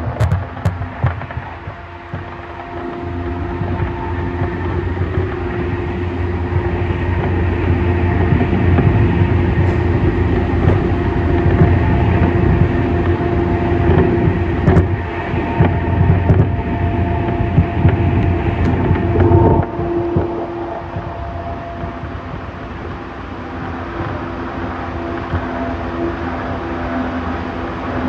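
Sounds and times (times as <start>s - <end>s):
steady hum: 0.0s - 28.0s
train wheels rumbling on rail: 0.0s - 28.0s.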